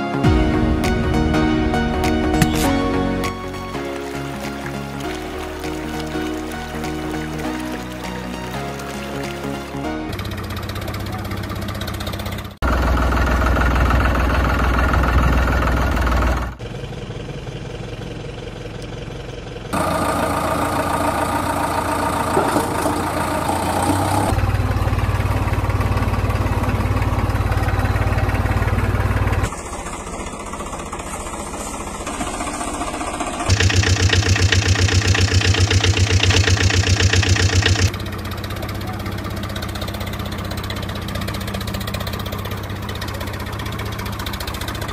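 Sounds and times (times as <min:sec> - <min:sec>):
tractor engines running: 0:00.0 - 0:44.9.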